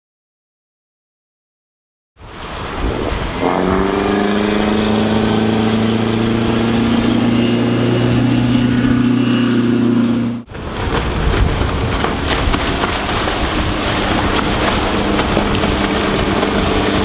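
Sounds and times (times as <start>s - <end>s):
boat engine running hard: 2.4s - 17.0s.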